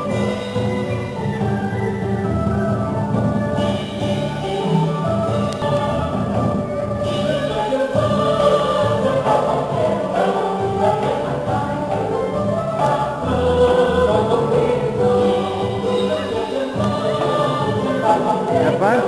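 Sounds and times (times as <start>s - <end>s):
voices singing together: 0.0s - 2.4s, 3.0s - 19.0s
instrumental ensemble: 0.0s - 19.0s.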